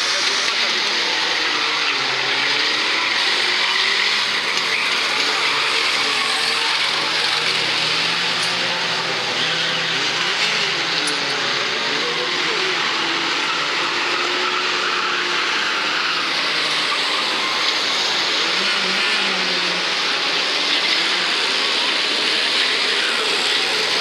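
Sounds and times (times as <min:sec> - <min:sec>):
racing car engines revving: 0:00.0 - 0:24.0.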